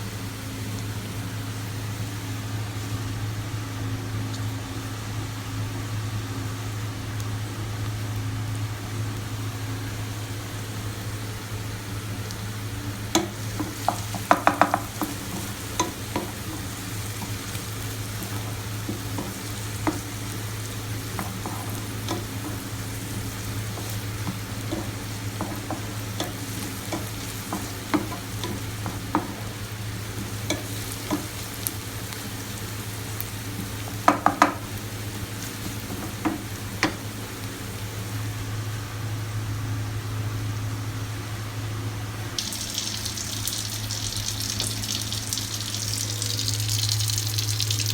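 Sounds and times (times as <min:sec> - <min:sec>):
food sizzling in a frying pan: 0:00.0 - 0:41.1, 0:42.0 - 0:47.9.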